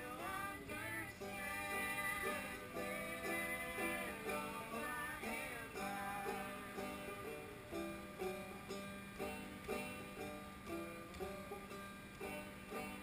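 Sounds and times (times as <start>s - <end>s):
banjo picking: 0.0s - 13.0s.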